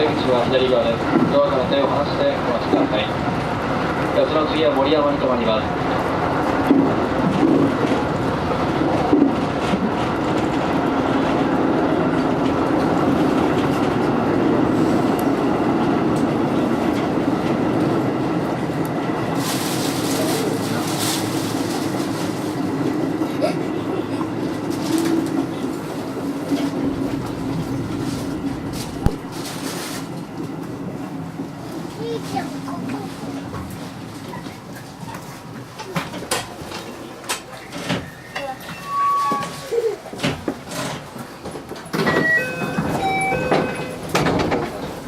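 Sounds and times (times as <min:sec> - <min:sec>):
train rumble inside carriage: 0:00.0 - 0:45.0
wheels clickety-clack on rails: 0:00.0 - 0:45.0.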